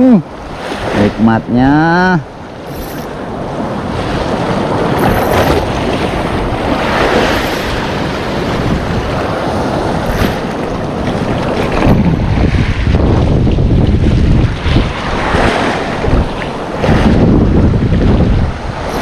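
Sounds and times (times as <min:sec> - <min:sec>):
sea waves washing on shore: 0:00.0 - 0:19.0
wind buffeting microphone: 0:02.2 - 0:19.0.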